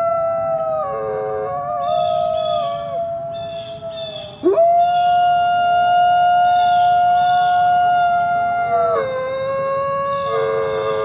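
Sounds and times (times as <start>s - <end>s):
coyote howling: 0.0s - 11.0s.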